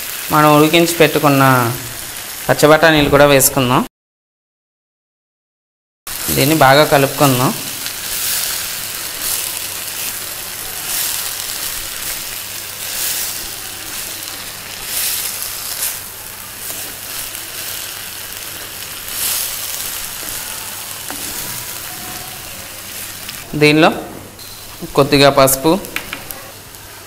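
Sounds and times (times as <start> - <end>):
vegetables sizzling in oil: 0.0 - 3.0, 6.1 - 27.0.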